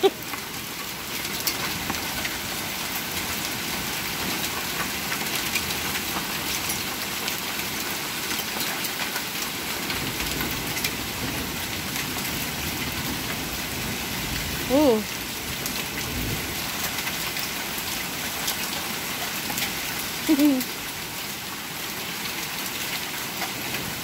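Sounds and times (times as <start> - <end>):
hailstones ticking: 0.0 - 24.0.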